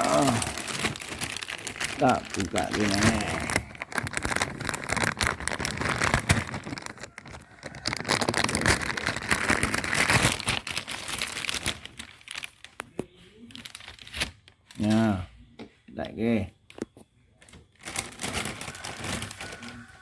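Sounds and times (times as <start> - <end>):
plastic packaging crinkling: 0.0 - 15.2, 16.8 - 20.0.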